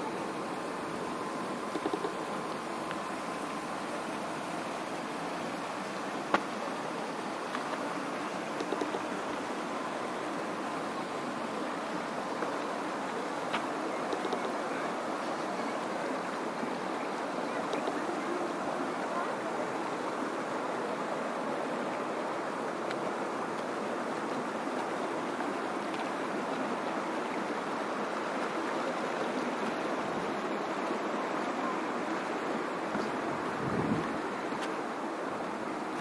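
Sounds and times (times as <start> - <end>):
river rushing over stones: 0.0 - 36.0.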